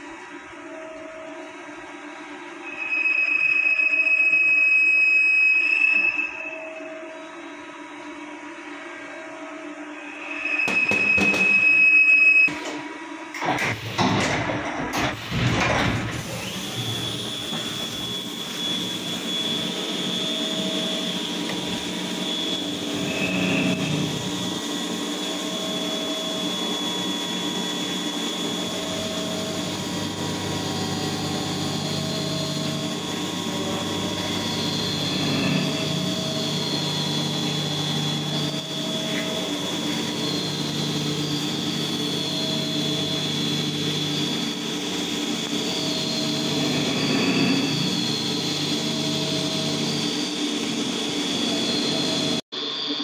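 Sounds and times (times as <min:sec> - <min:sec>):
high spindle whine: 0:00.0 - 0:12.5, 0:15.9 - 0:53.0.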